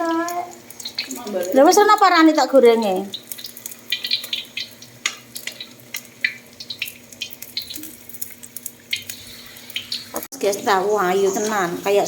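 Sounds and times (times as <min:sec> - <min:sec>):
battered food frying in oil: 0:00.0 - 0:12.0.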